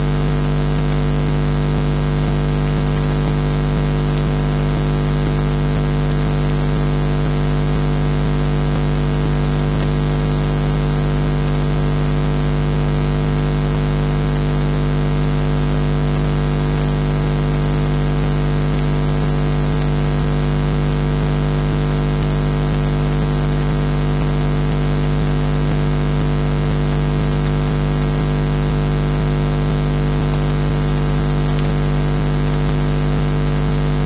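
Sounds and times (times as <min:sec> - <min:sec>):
electrical hum and buzz: 0:00.0 - 0:34.0
sharp interference crackles: 0:00.0 - 0:34.0.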